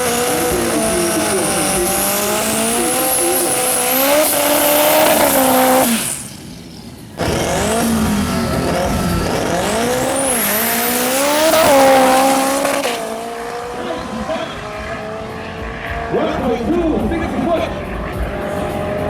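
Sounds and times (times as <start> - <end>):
drag car engine running hard: 0.0 - 19.0
high engine whine: 0.0 - 19.0.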